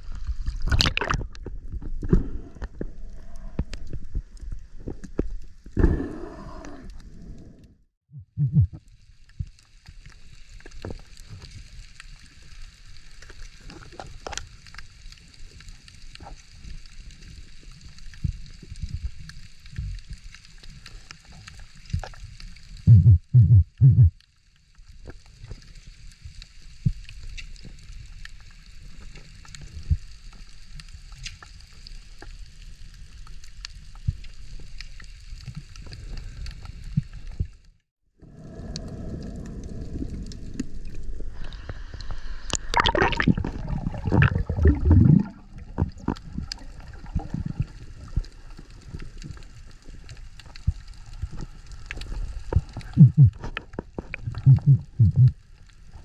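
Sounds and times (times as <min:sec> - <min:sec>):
underwater rumble of moving water: 0:00.0 - 0:56.0.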